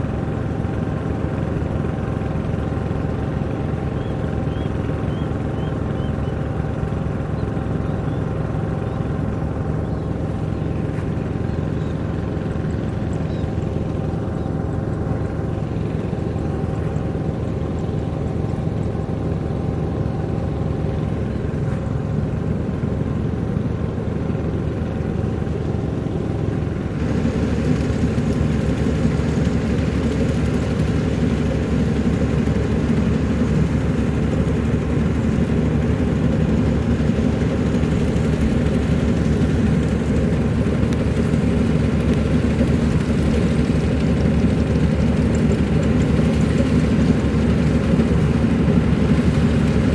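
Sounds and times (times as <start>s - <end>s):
combine harvester engine hum: 0.0s - 49.9s.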